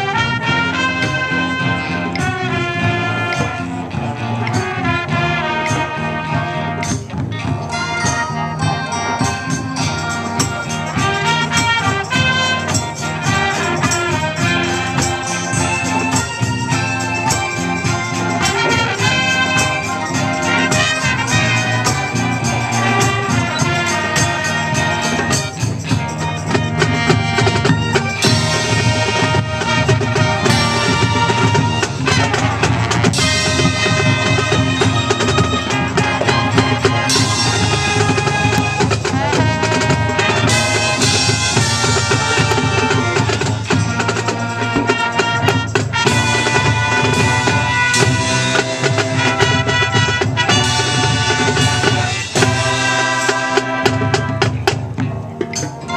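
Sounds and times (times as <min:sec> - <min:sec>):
marching band playing: 0:00.0 - 0:55.9
percussion strikes: 0:00.0 - 0:55.9.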